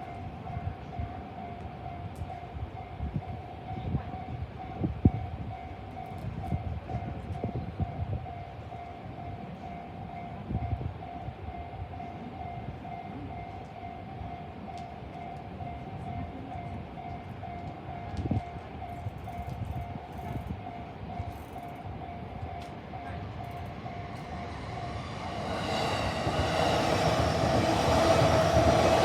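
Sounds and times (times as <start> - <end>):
railroad crossing bell ringing: 0.0 - 29.0
train rumbling past: 0.0 - 29.0.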